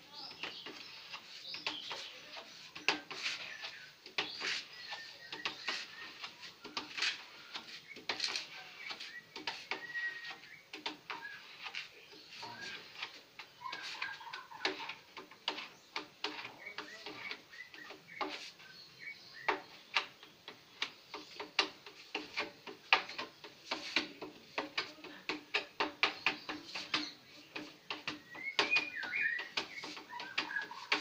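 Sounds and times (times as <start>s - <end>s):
birds chirping: 0.0s - 31.0s
sponge rubbing on wood: 0.2s - 18.8s, 21.1s - 31.0s.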